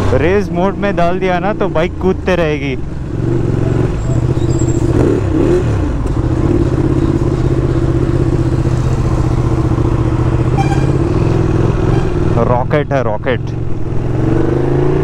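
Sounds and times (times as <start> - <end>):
motorcycle engine at low revs: 0.0 - 12.7, 13.4 - 15.0.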